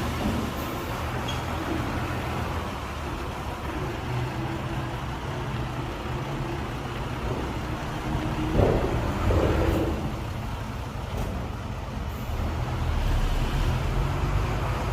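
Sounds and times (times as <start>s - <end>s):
diesel truck engine running: 0.0s - 14.9s.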